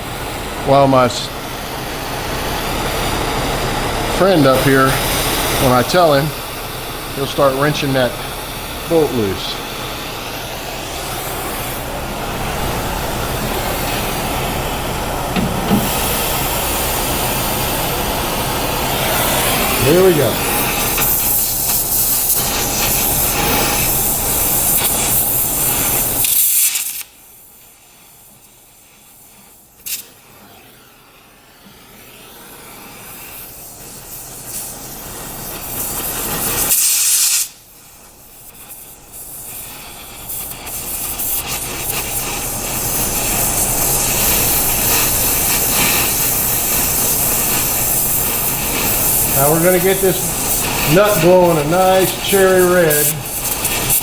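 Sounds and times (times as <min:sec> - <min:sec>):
torch flame hissing: 0:00.0 - 0:54.0.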